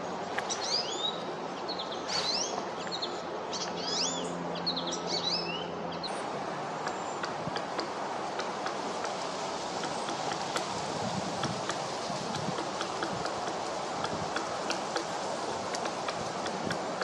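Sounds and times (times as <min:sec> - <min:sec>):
small songbirds chirping: 0:00.4 - 0:17.0.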